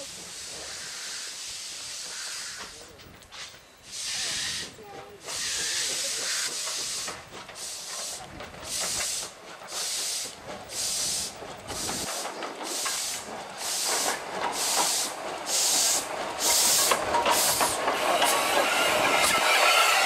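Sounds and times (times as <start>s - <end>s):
steam locomotive exhaust beats: 0.0s - 20.0s
steam venting around cylinders: 0.0s - 20.0s.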